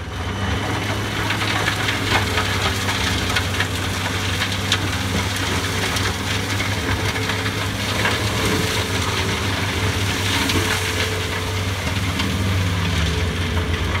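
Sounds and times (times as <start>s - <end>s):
mulcher engine droning: 0.0s - 14.0s
mulching head grinding: 0.2s - 14.0s.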